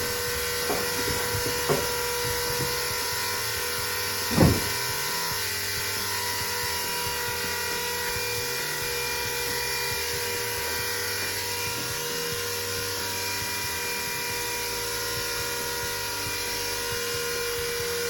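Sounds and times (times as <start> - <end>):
electric pump motor whining: 0.0 - 18.0.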